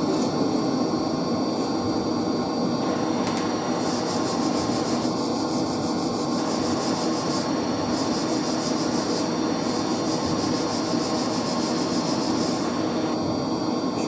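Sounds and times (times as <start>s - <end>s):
machine whir and hum: 0.0s - 14.0s.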